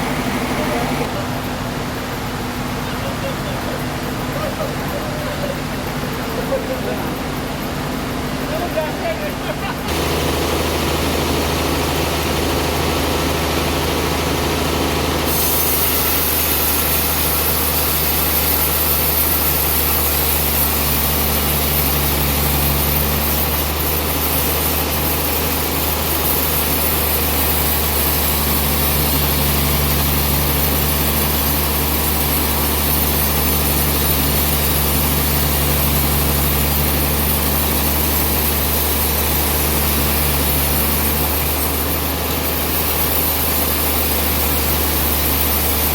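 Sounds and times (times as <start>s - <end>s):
saw cutting through log: 0.0s - 1.1s, 9.9s - 45.9s
sawmill engine drone: 0.0s - 45.9s.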